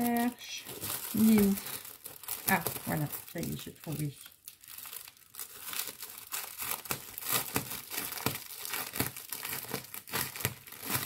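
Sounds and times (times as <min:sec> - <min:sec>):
plastic film crinkling and tearing: 0:00.0 - 0:11.0.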